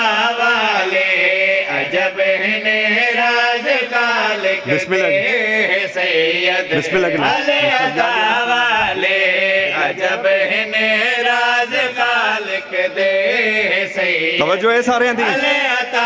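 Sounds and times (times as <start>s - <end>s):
man chanting devotional verse: 0.0s - 16.0s.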